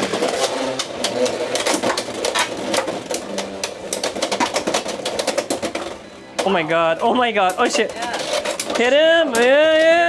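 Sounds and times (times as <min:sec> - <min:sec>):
spinning tops clashing in plastic stadium: 0:00.0 - 0:10.0.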